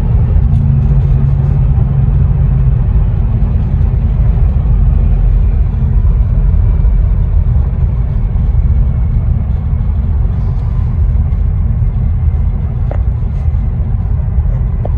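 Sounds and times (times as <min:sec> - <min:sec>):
car road rumble: 0:00.0 - 0:14.9.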